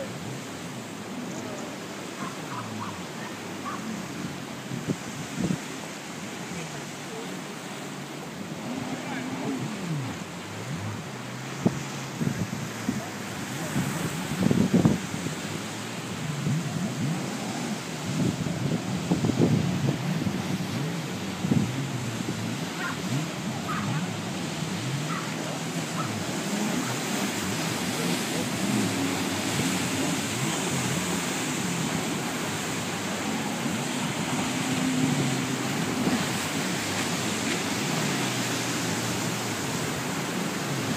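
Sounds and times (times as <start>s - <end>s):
jet ski engines revving: 0.0s - 40.9s
surf washing: 0.0s - 40.9s.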